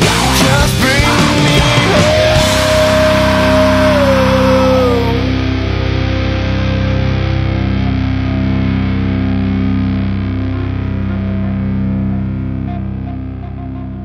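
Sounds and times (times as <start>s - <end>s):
distorted electric guitar chords: 0.0s - 14.0s.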